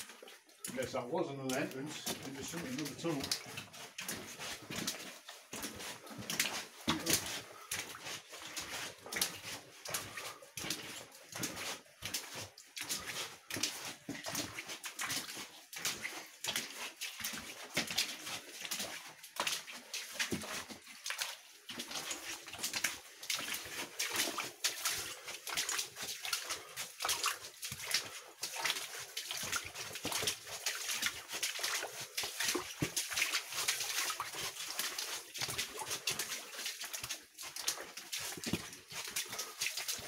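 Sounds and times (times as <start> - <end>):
footsteps splashing through water: 0.0 - 40.0.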